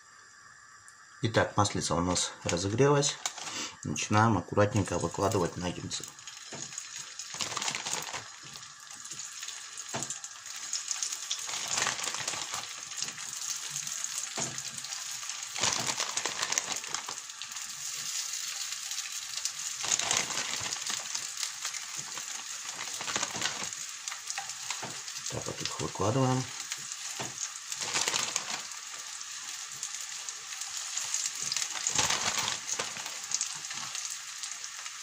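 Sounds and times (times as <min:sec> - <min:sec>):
food sizzling in oil: 0:04.8 - 0:35.0.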